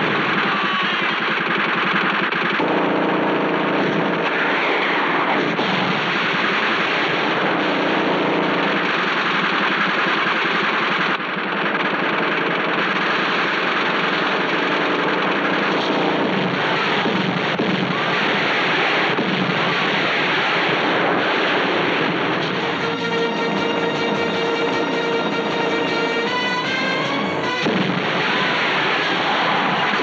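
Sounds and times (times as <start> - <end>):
rapid gunfire: 0.0 - 30.0.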